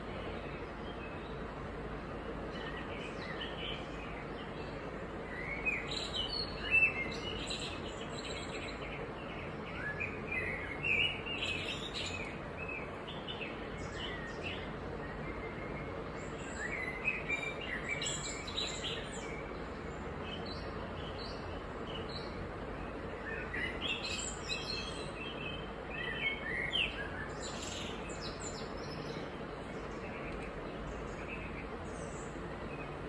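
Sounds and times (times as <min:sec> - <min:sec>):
background hiss: 0:00.0 - 0:33.0
small birds chirping: 0:00.0 - 0:33.0.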